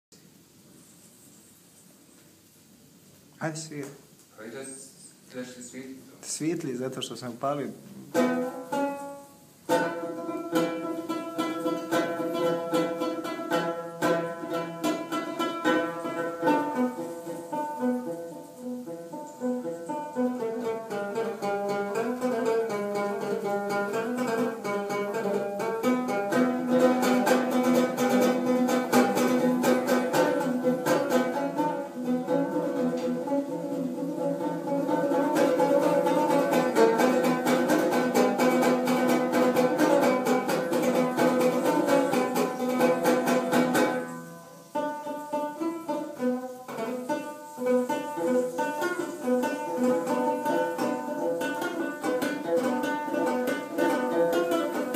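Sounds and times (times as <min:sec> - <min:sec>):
plucked string instrumental music: 0:07.4 - 0:54.9.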